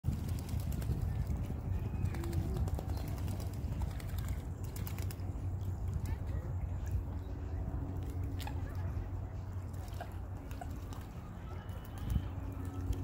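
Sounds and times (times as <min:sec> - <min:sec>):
wind rumbling against microphone: 0:00.0 - 0:13.0.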